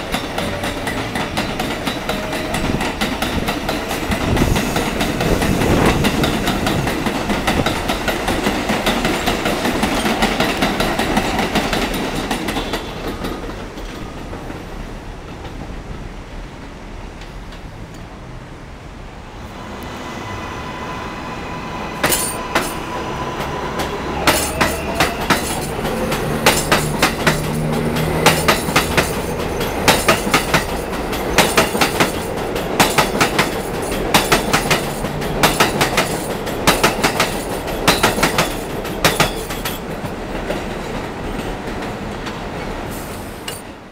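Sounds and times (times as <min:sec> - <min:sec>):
train wheels clacking on rails: 0:00.0 - 0:16.1, 0:21.8 - 0:43.9.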